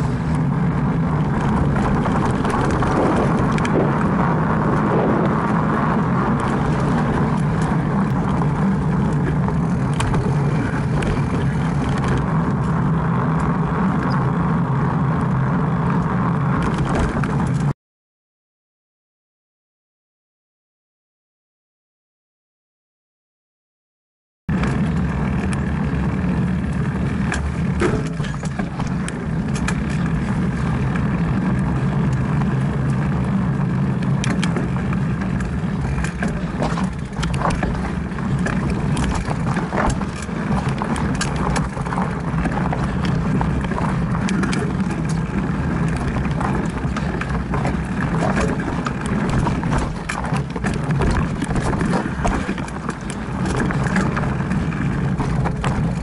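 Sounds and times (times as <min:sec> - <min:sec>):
bike rattling over rocks: 0:00.0 - 0:15.2, 0:15.9 - 0:17.7, 0:24.5 - 0:56.0
rumble of wind and vibration: 0:00.0 - 0:17.8, 0:24.5 - 0:56.0.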